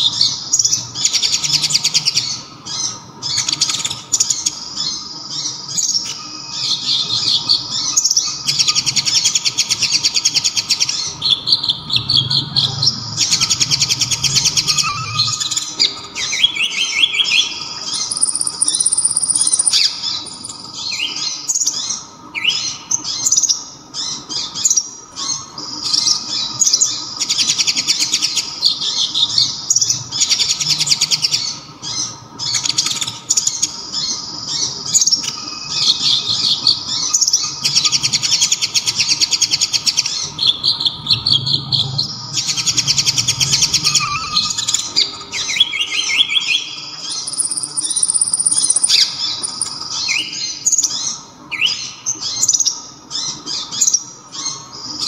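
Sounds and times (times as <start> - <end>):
bird singing high rapid trills: 0.0 - 55.0
faint steady hum: 0.0 - 55.0.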